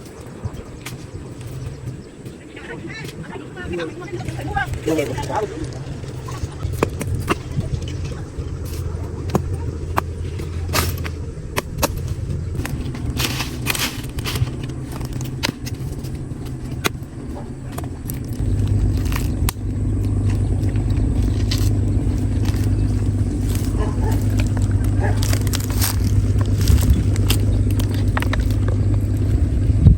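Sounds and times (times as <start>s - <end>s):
low rumble: 0.0s - 29.9s.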